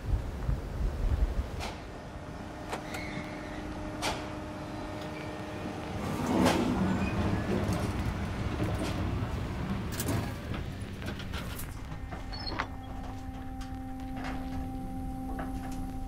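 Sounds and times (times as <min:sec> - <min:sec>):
grinding rumble: 0:00.0 - 0:16.0
low machine hum: 0:00.1 - 0:16.0.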